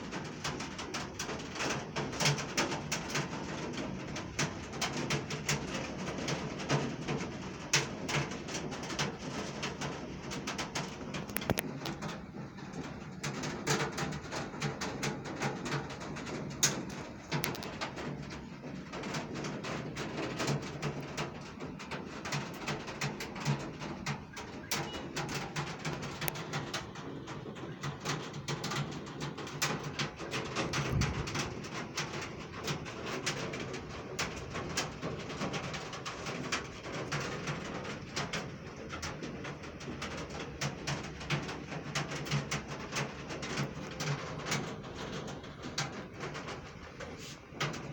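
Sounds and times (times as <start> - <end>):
heavy rain on hard surface: 0.0 - 47.9.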